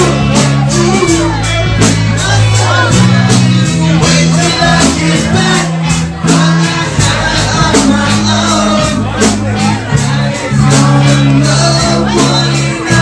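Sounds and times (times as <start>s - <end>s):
person singing: 0.0s - 13.0s
rock band playing live: 0.0s - 13.0s.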